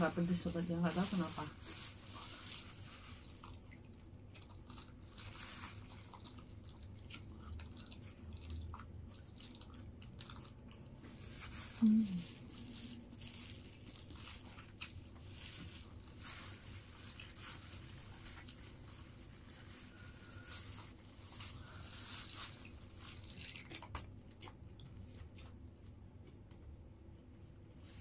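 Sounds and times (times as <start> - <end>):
plastic glove crinkling: 0.0 - 25.9, 27.5 - 28.0
person chewing food: 1.7 - 26.8.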